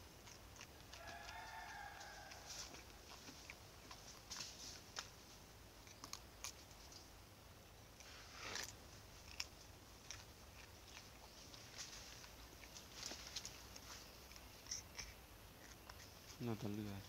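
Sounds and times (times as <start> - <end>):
monkey biting and chewing fruit: 0.0 - 7.2, 7.8 - 17.0.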